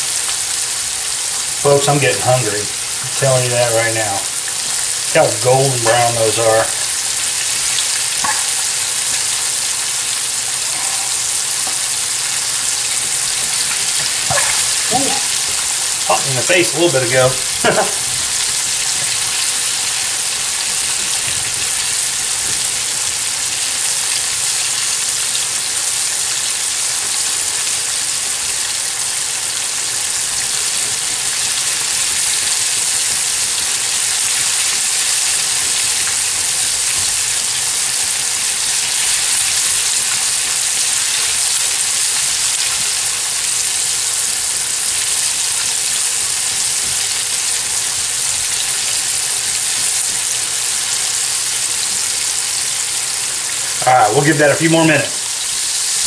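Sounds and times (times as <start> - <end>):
meat frying in hot grease: 0.0 - 56.0.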